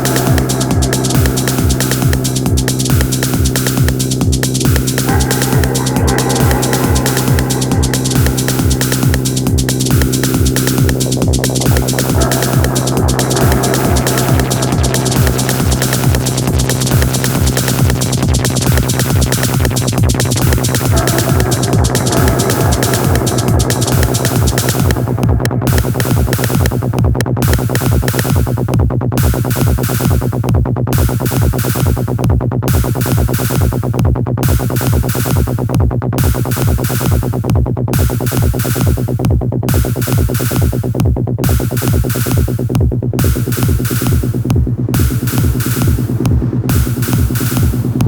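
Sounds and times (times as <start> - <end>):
synthesizer bass line: 0.0 - 48.0
techno drum machine beat: 0.0 - 48.0.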